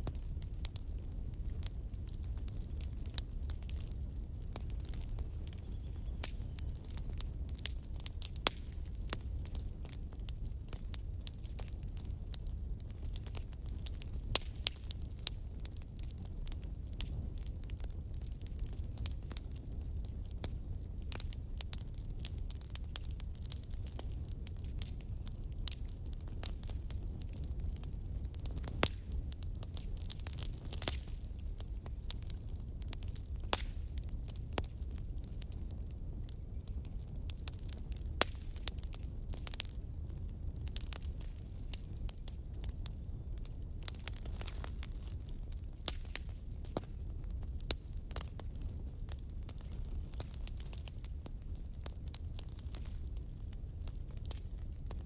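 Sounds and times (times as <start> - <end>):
faint clicks and crackles: 0.0 - 55.0.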